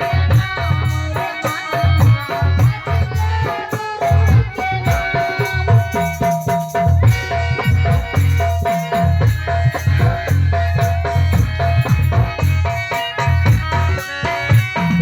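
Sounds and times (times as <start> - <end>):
instrumental music with beat: 0.0 - 15.0.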